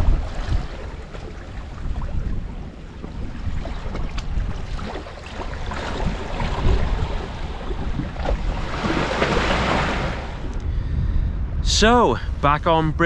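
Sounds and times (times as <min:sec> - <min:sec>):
waves breaking over rocks: 0:00.0 - 0:10.6
wind on microphone: 0:00.0 - 0:13.0.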